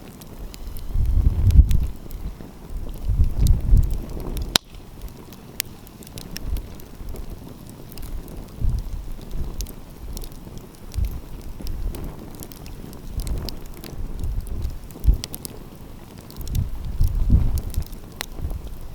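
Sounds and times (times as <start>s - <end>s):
wind rumbling on microphone: 0.0s - 18.9s
wood fire crackling: 0.0s - 18.9s.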